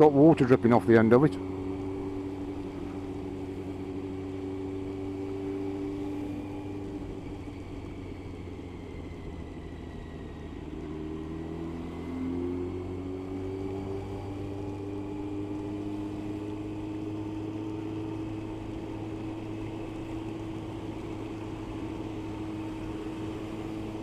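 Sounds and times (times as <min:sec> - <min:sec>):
motorcycle engine cruising: 0:00.0 - 0:24.0
wind and road noise: 0:00.0 - 0:24.0.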